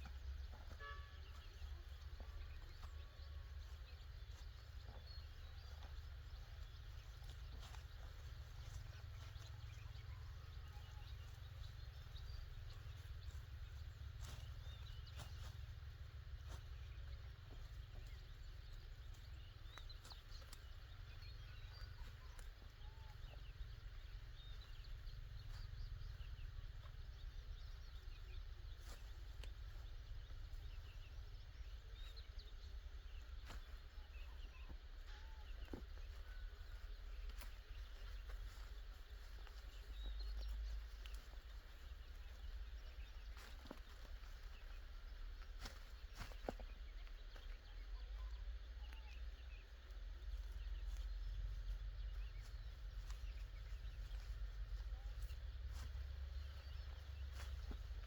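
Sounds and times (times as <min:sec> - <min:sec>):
faint bird chirps: 0:00.0 - 0:58.0
steady low rumble: 0:00.0 - 0:58.0.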